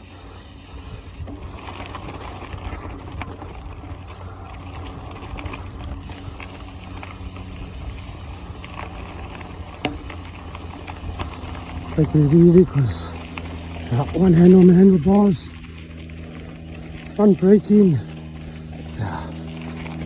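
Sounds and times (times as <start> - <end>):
bike rattles and clicks: 0.0 - 20.0
bike tyres rolling on dirt: 0.0 - 20.0.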